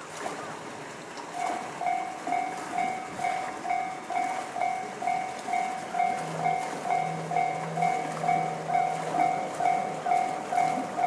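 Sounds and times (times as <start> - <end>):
level crossing warning bell: 1.4 - 11.0.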